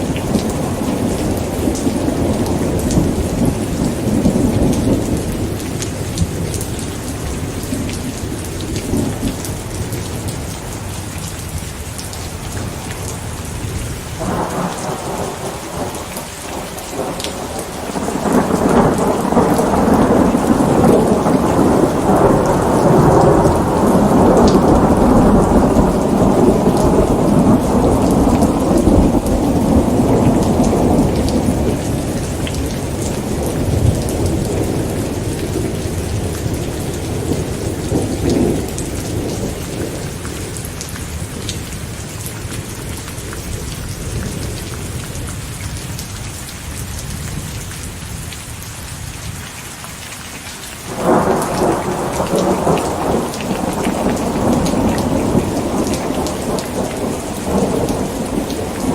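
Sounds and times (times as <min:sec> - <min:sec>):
rolling thunder: 0:00.0 - 0:10.5, 0:12.0 - 0:45.8, 0:50.9 - 0:58.9
steady rain: 0:00.0 - 0:58.9.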